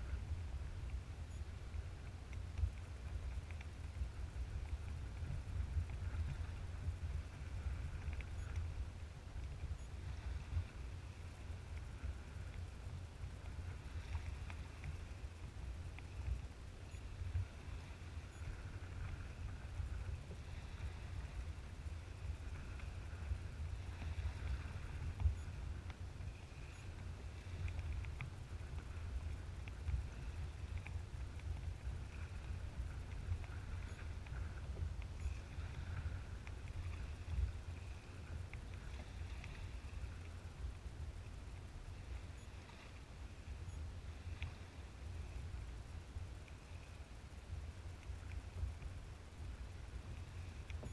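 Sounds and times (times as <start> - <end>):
paddle strokes: 0.0 - 50.9
wind rumble on microphone: 0.0 - 50.9
small ticks: 0.8 - 8.8, 9.4 - 50.9.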